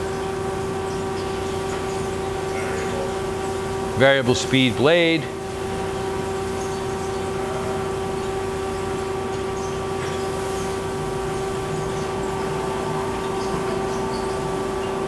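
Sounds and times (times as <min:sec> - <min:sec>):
band saw humming and whining: 0:00.0 - 0:15.0.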